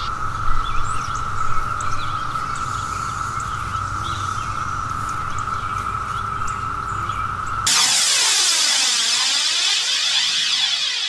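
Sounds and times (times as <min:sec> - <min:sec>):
cicadas droning: 0:00.0 - 0:11.0
faint bird chirps: 0:00.0 - 0:11.0.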